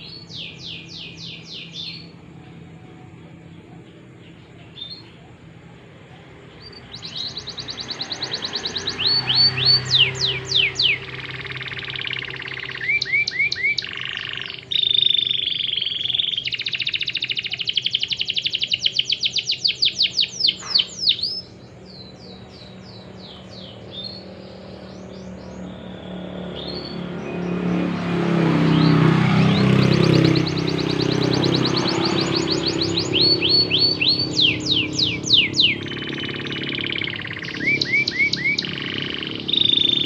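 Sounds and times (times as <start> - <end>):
canary singing: 0.0 - 40.0.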